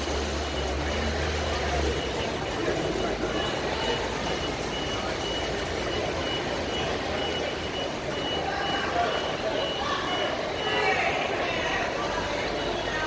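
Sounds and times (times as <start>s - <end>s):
traffic rumble and hum: 0.0s - 13.0s.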